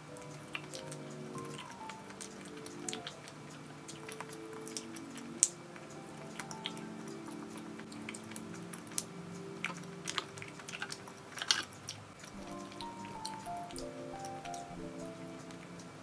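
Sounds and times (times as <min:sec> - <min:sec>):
soft background music: 0:00.0 - 0:16.0
person chewing soft food: 0:00.2 - 0:14.7.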